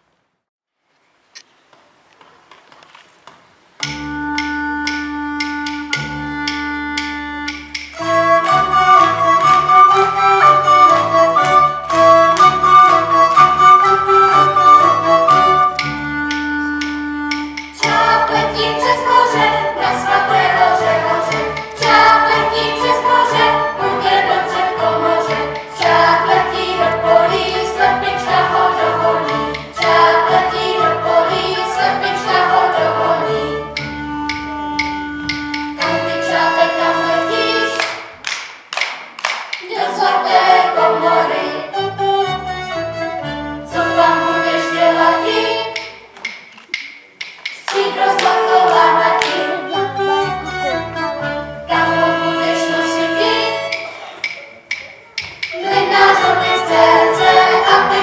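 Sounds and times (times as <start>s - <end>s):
instrumental accompaniment: 3.7s - 58.0s
children singing a folk song: 4.3s - 38.1s, 39.6s - 46.1s, 47.5s - 58.0s.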